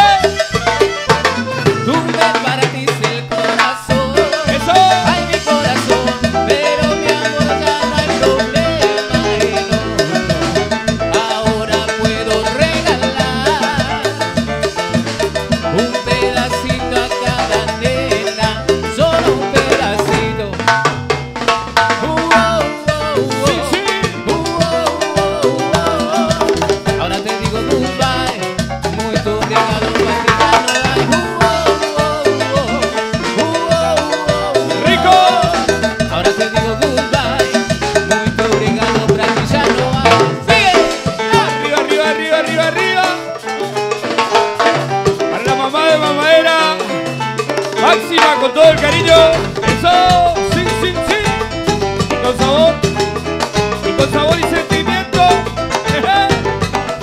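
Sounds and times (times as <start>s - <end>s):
live band playing latin dance music: 0.0s - 57.0s
steady drum beat: 0.0s - 57.0s.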